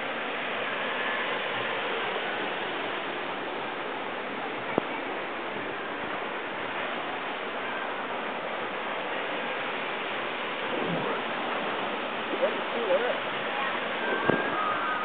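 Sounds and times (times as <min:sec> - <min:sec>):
churning water rushing: 0:00.0 - 0:15.0.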